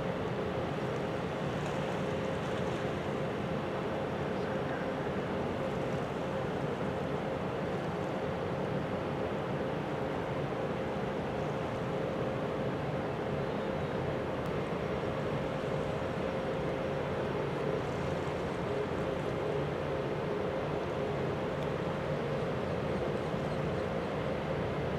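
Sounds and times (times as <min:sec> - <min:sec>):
ship engine drone: 0:00.0 - 0:24.9.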